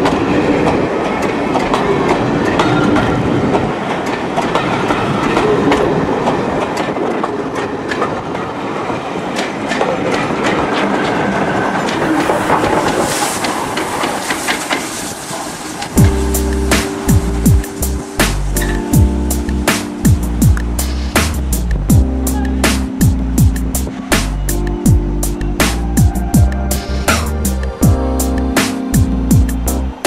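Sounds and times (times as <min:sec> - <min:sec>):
steam locomotive passing: 0:00.0 - 0:30.0
train wheels clicking over rail joints: 0:00.0 - 0:30.0.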